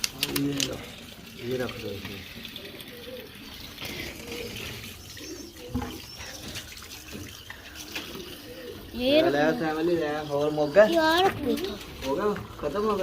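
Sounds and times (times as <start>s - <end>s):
tap water filling container: 0.0s - 13.0s.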